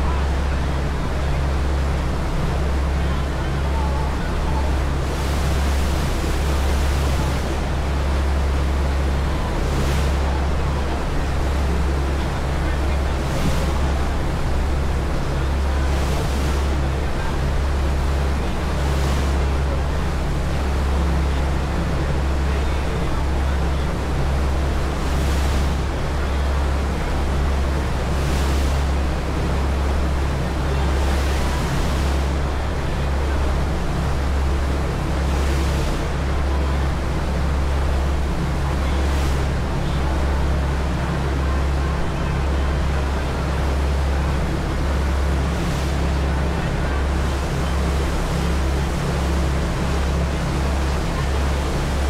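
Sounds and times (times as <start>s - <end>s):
boat wake rushing: 0.0s - 52.0s
ferry engines droning: 0.0s - 52.0s
wind: 0.0s - 52.0s.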